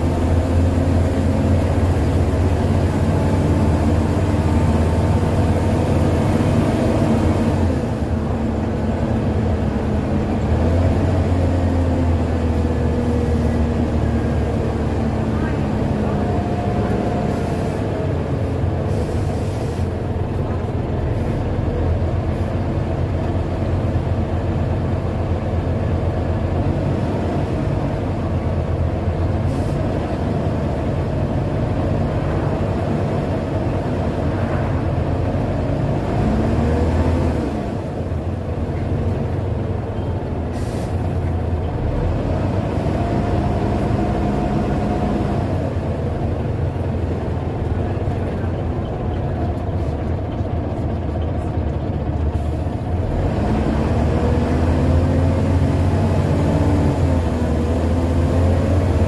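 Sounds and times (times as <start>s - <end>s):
bus diesel engine under load: 0.0s - 59.0s
road noise: 0.0s - 59.0s.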